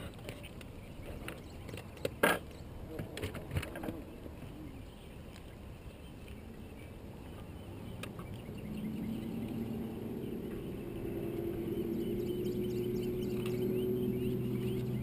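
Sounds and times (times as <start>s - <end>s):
boat engine hum: 0.0s - 15.0s
low outdoor rumble: 2.4s - 15.0s.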